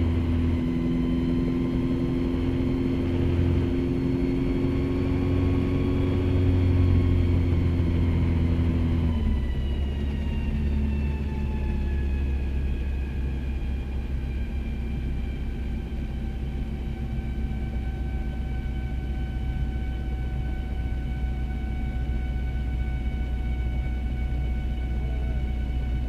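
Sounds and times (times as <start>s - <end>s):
helicopter drone with falling whine: 0.0s - 26.0s.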